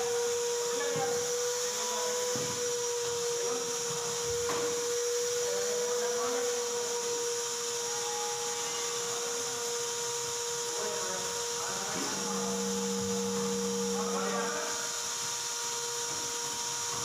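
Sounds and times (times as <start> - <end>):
workshop machine whining: 0.0 - 17.0.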